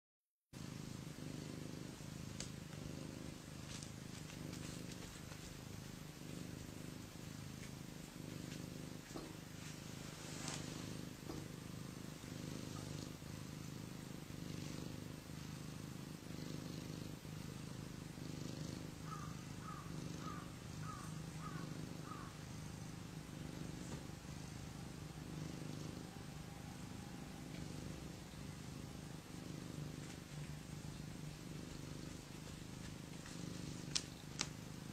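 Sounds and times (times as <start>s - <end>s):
cat purring: 0.5s - 34.9s.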